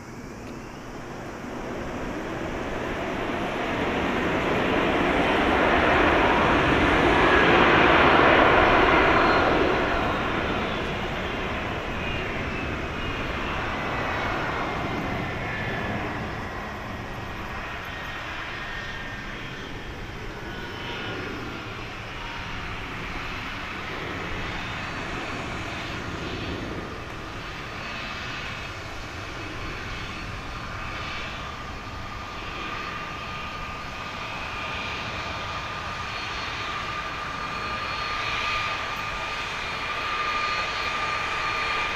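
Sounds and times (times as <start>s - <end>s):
jet airliner passing: 0.0s - 41.9s
jet engine whine: 0.0s - 41.9s.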